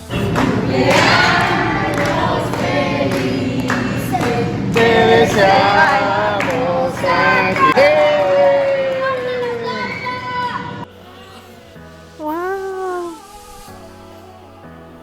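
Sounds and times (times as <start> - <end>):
choir singing with music: 0.0 - 12.4, 13.2 - 15.0.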